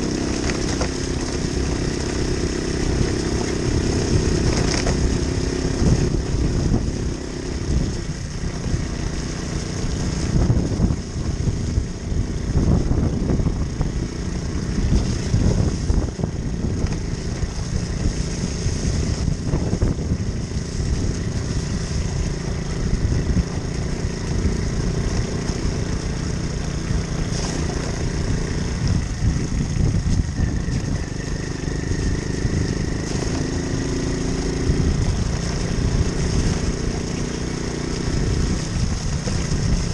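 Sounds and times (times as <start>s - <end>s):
heavy low rumble: 0.0s - 37.4s
moped engine running: 0.0s - 39.9s.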